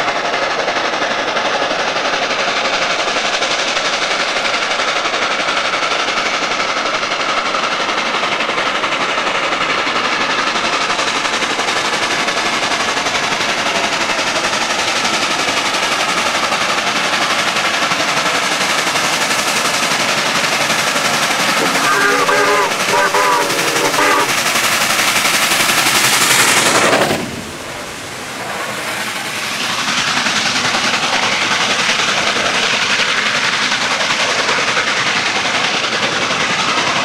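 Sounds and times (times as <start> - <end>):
steam locomotive exhaust chuffs: 0.0 - 37.0.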